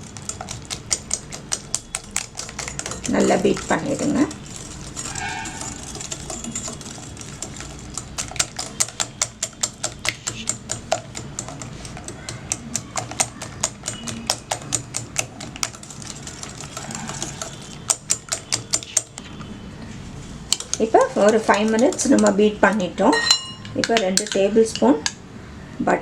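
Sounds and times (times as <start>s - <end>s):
whisk clicking against bowl: 0.0s - 19.4s, 20.5s - 22.9s, 23.6s - 24.4s.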